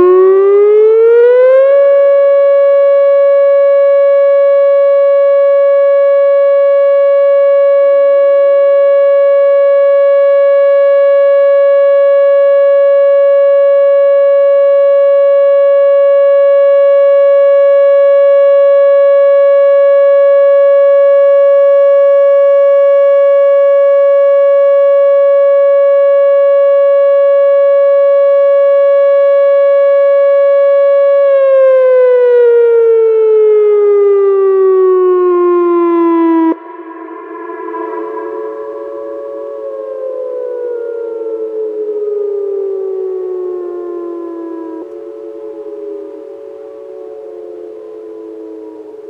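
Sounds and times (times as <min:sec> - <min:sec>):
outdoor warning siren: 0:00.0 - 0:49.0.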